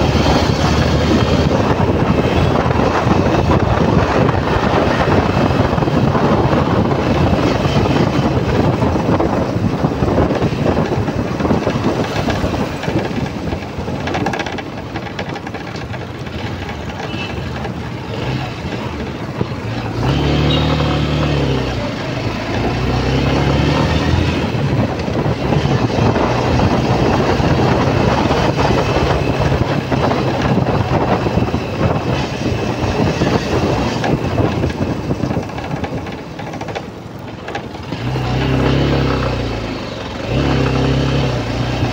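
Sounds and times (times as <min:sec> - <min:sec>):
motorcycle engine: 0:00.0 - 0:41.9
passing traffic: 0:00.0 - 0:41.9
wind rushing over microphone: 0:00.0 - 0:41.9.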